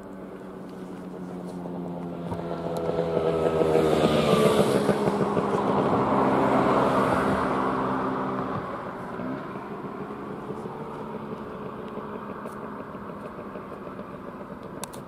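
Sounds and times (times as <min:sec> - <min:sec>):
motorcycle passing by: 0:00.0 - 0:15.0.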